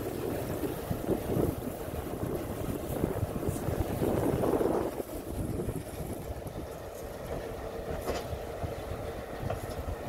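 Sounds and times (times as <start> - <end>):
boat engine rumbling: 0.0 - 10.0
wind buffeting microphone: 0.0 - 10.0.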